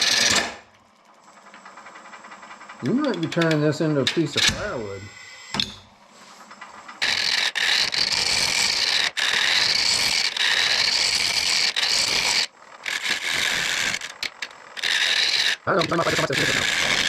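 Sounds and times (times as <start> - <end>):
lathe tool scraping wood: 0.0 - 0.7, 1.8 - 5.4, 6.1 - 17.0.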